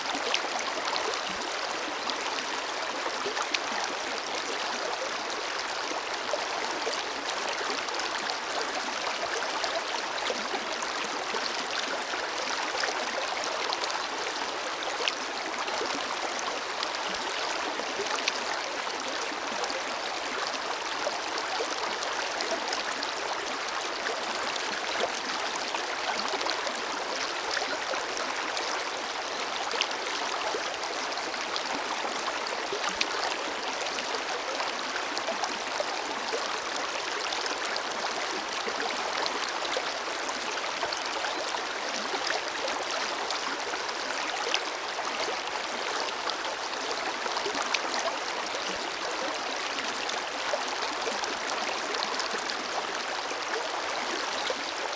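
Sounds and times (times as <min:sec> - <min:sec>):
river flowing over stones: 0:00.0 - 0:54.9.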